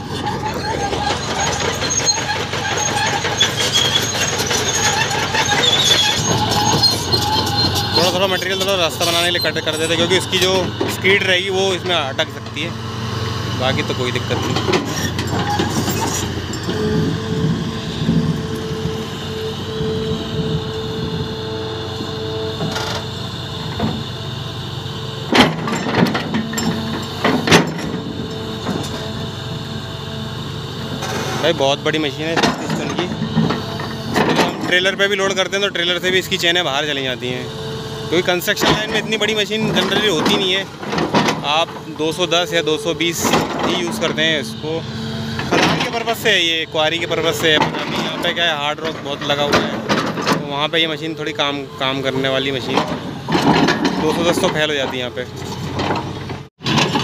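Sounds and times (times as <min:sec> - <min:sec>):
heavy machinery engine running: 0:00.0 - 0:57.0
metallic squeals and clanks: 0:00.0 - 0:57.0.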